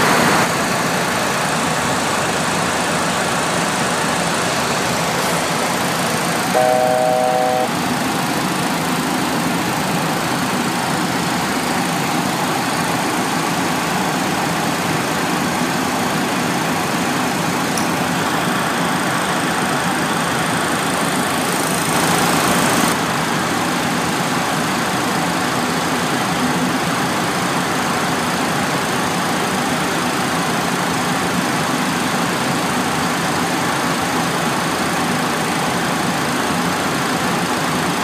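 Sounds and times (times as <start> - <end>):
airflow and engines rushing: 0.0 - 38.0.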